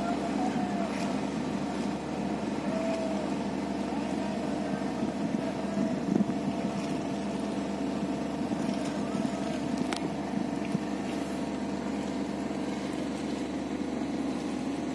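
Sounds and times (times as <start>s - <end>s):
ship engine droning: 0.0s - 14.9s.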